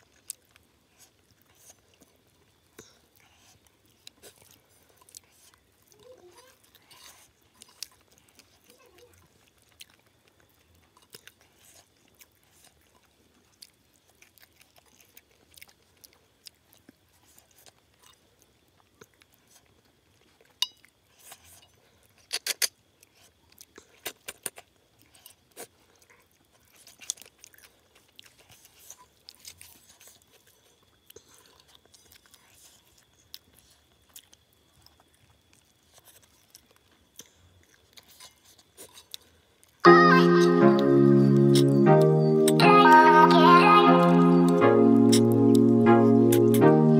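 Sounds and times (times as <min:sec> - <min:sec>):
chewing and crunching food: 0:00.0 - 0:46.9.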